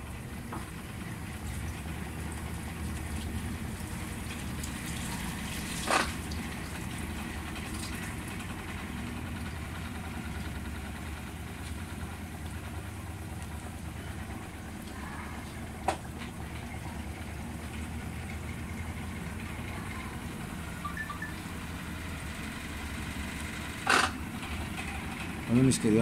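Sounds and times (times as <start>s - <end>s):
washing machine spin hum: 0.0s - 26.0s.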